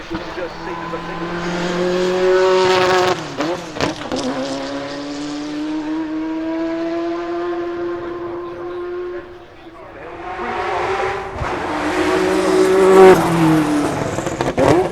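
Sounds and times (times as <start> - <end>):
car engine accelerating hard: 0.0 - 14.9
exhaust cracks: 0.0 - 14.9.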